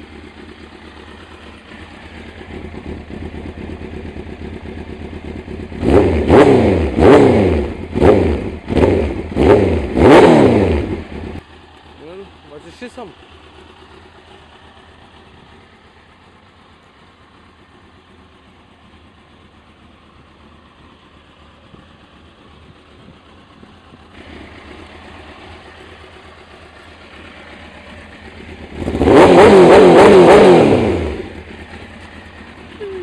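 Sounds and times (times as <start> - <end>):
motorcycle engine idling: 0.0 - 33.0
motorcycle engine revving: 0.0 - 33.0.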